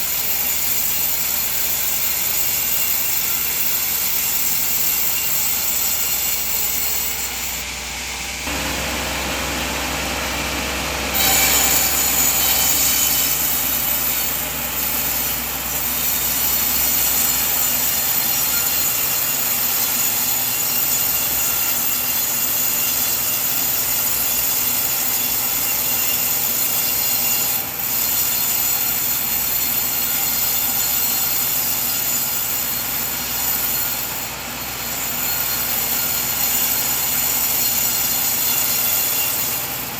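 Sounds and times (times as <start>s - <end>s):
band saw cutting a log: 0.0s - 39.9s.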